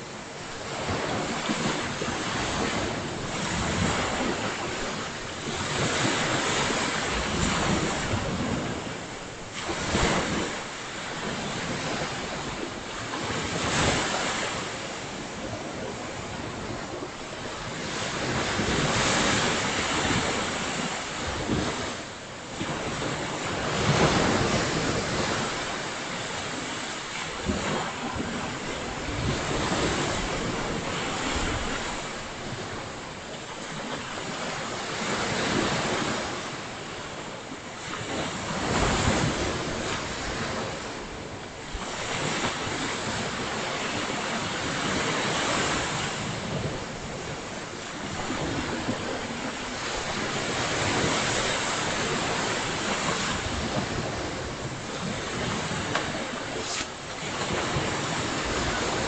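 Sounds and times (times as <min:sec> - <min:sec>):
ocean surf breaking: 0:00.0 - 0:59.0
wind noise on microphone: 0:00.0 - 0:59.0.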